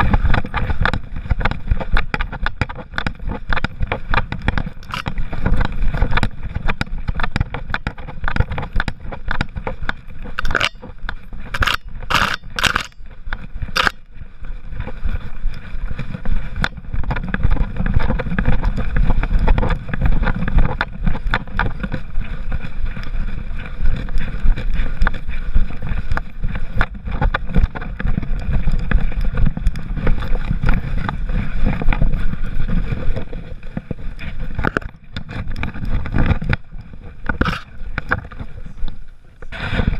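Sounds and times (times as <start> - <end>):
camera knocking and rubbing: 0.0 - 14.1, 14.7 - 38.5.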